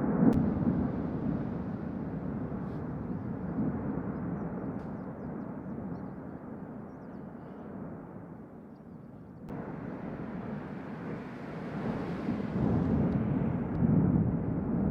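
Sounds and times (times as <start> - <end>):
volcanic blast: 0.0 - 6.8, 9.5 - 14.9
volcano rumbling: 0.0 - 6.9, 9.5 - 14.9.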